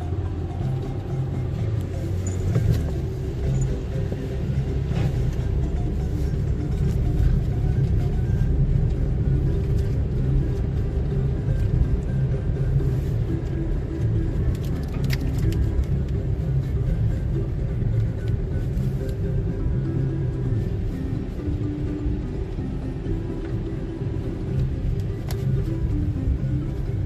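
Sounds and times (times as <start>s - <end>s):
car driving rumble: 0.0s - 27.0s
marimba music: 0.0s - 27.0s.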